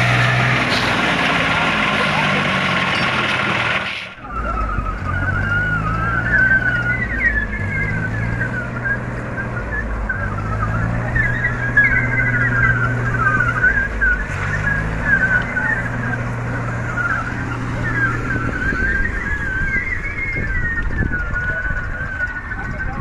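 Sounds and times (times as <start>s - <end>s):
tractor engines humming: 0.0s - 23.0s.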